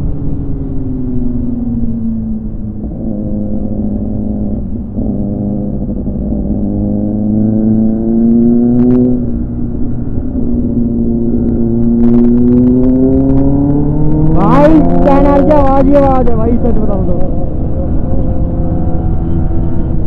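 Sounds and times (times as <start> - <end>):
wind and road rumble: 0.0 - 20.0.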